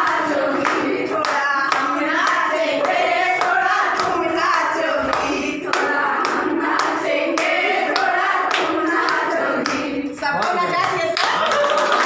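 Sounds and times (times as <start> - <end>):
women singing together: 0.0 - 11.6
hands clapping along: 0.0 - 12.0.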